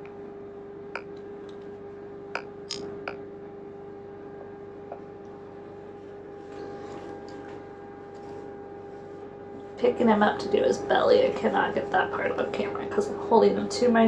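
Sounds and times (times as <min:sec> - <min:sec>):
steady electric hum: 0:00.0 - 0:14.0.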